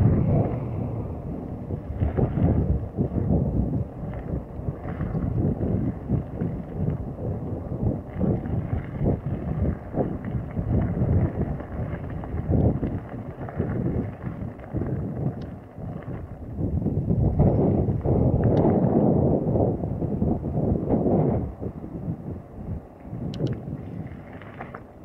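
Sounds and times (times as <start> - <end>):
mountain bike rumbling on dirt track: 0.0 - 25.0
wind buffeting microphone: 0.0 - 25.0.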